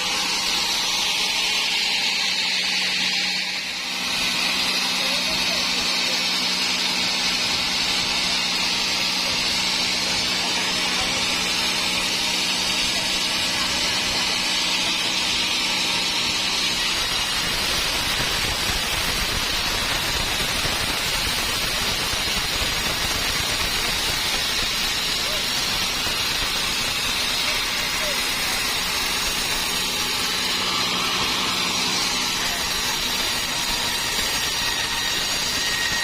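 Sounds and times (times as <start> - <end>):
sawmill saw cutting wood: 0.0 - 36.0.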